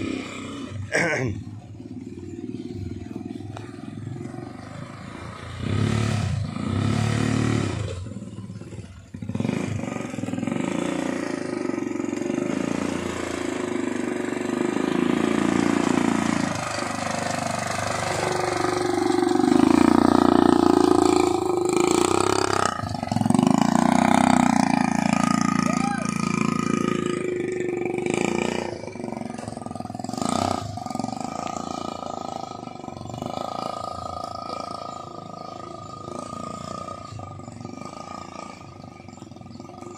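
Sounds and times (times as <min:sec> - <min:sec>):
quad bike engines revving: 0:00.0 - 0:39.9.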